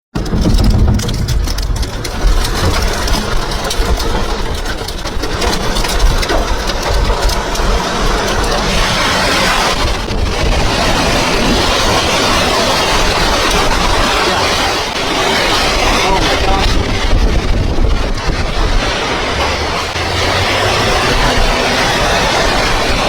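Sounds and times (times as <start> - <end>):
wind buffeting microphone: 0.1 - 23.0.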